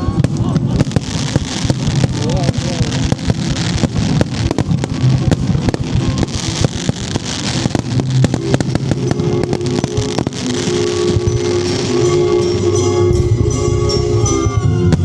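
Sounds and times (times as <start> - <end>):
background music: 0.0 - 15.0
fireworks bangs and crackles: 0.0 - 15.0.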